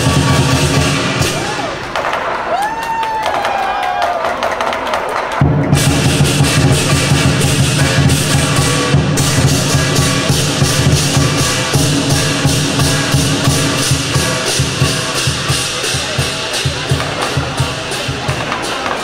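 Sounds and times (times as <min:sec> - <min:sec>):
large drum beating fast: 0:00.0 - 0:02.5, 0:04.2 - 0:19.0
cymbals clashing: 0:00.0 - 0:02.8, 0:05.4 - 0:19.0.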